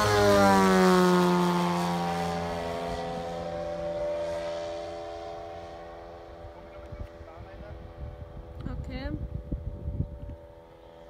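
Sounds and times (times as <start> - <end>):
model airplane engine flying past: 0.0 - 11.0.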